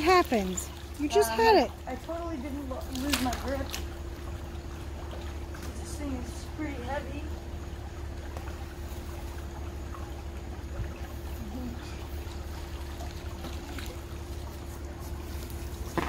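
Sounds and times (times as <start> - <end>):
faint trickling water: 0.0 - 16.0
low rumble and hum: 0.0 - 16.0.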